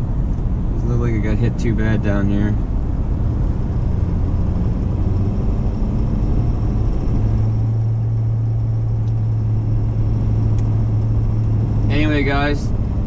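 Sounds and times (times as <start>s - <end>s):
low engine drone: 0.0s - 13.0s
road rumble: 0.0s - 13.0s.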